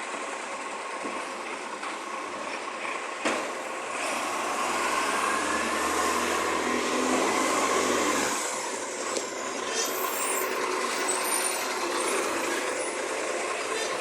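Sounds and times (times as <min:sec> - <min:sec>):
garbage truck humming: 0:00.0 - 0:14.0.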